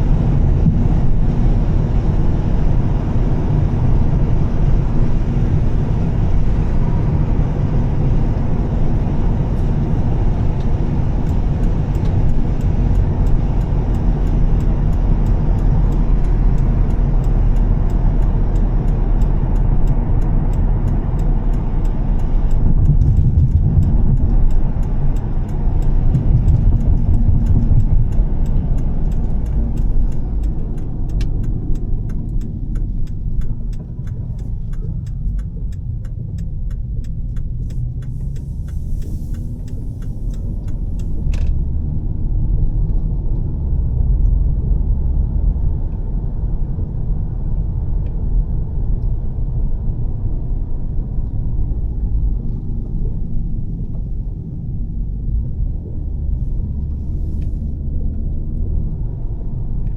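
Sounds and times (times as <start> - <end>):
car engine cruising: 0.0 - 59.9
road and tyre noise: 0.0 - 59.9.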